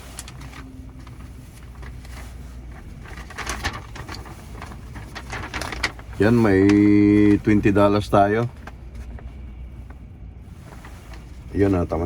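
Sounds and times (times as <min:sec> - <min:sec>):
paper crackling and rustling: 0:00.0 - 0:12.0.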